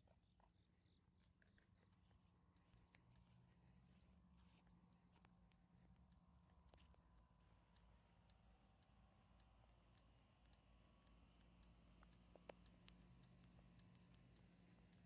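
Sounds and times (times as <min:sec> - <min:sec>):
faint low hum: 0:00.0 - 0:15.0
soft irregular ticks: 0:00.0 - 0:15.0.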